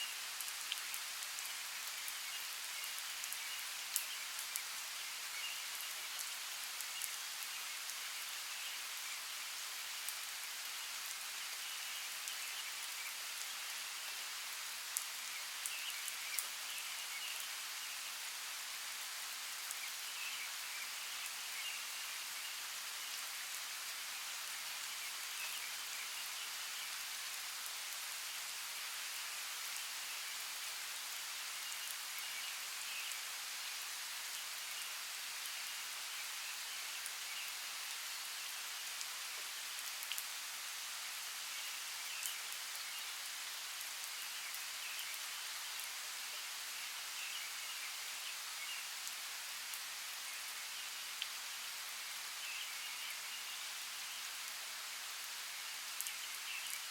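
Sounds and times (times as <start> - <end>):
steady rainfall hiss: 0.0 - 56.9.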